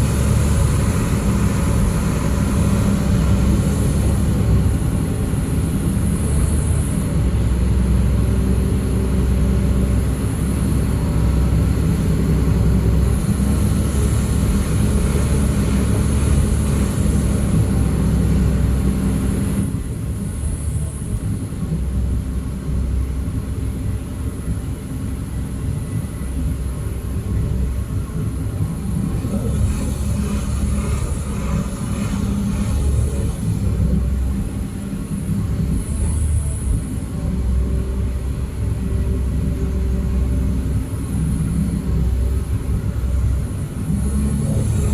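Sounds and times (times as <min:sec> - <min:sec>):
diesel engine rumbling: 0:00.0 - 0:44.9.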